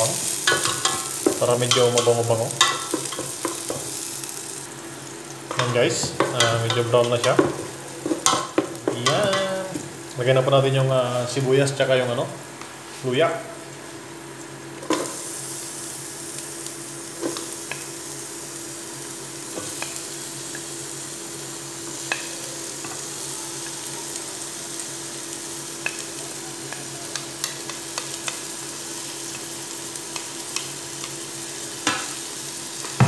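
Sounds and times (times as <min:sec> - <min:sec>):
onion sizzling in hot oil: 0:00.0 - 0:11.8, 0:13.0 - 0:33.0.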